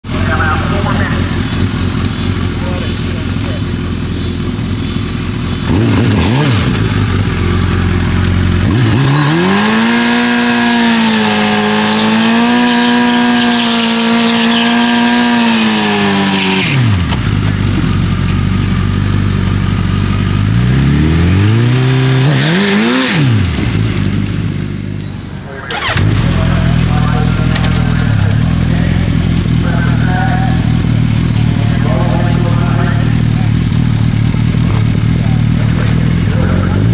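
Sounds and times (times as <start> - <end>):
motorcycle engine idling and revving: 0.0 - 36.9
tyre burnout: 0.1 - 36.9.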